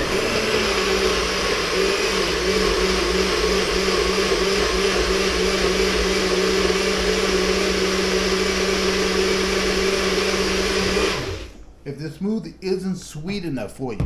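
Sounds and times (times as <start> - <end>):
electric blender running: 0.0 - 11.6.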